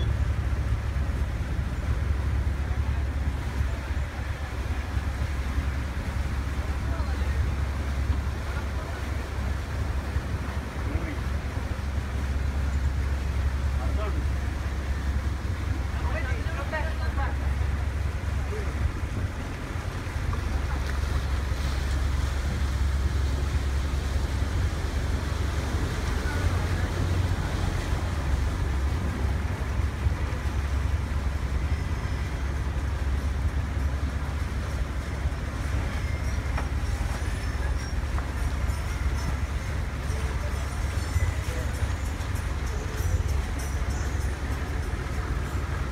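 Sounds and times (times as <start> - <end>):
boat engine humming: 0.0 - 45.9
wind and water rushing: 0.0 - 45.9.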